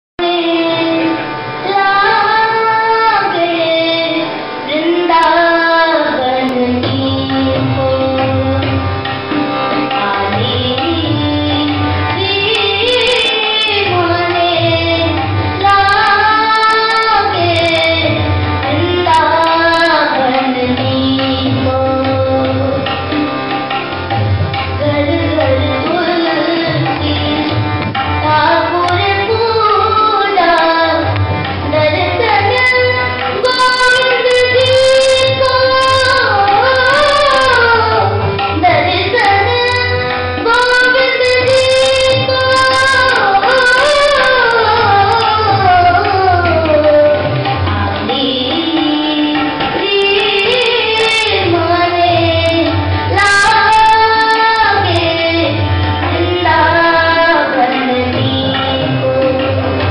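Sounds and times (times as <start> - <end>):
boy singing: 0.2 - 23.7, 24.5 - 59.9
harmonium: 0.2 - 59.9
tabla rhythm: 0.2 - 59.9.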